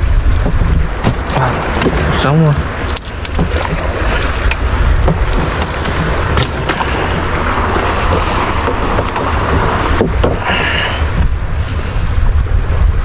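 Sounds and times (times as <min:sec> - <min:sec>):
sea noise: 0:00.0 - 0:13.0
wind: 0:00.0 - 0:13.0.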